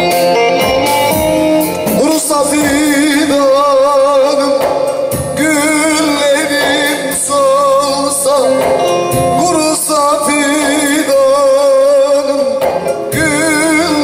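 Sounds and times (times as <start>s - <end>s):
folk song with instruments: 0.0s - 14.0s.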